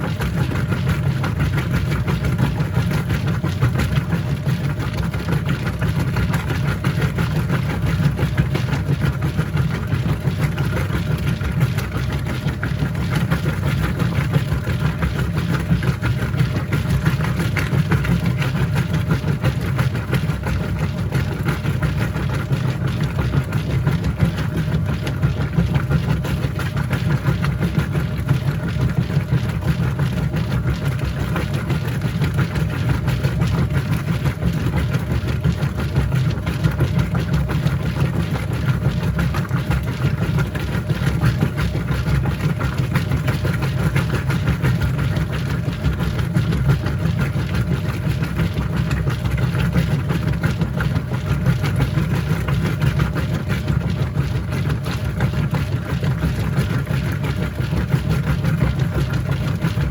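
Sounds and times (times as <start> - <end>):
washing machine churning: 0.0 - 59.9
washing machine motor hum: 0.0 - 59.9.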